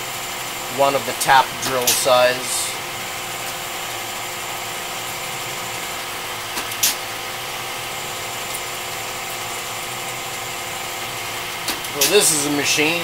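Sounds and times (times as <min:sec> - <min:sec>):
lathe machine hum: 0:00.0 - 0:13.0.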